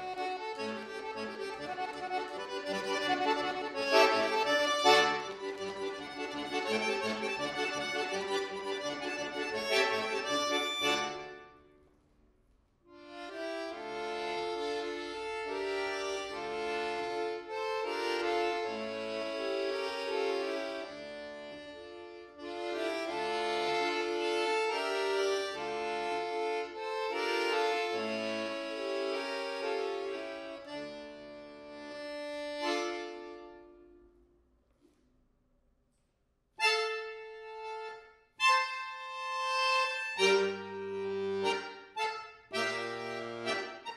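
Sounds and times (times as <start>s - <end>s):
accordion playing: 0.0s - 11.8s, 12.9s - 34.2s, 36.6s - 43.9s.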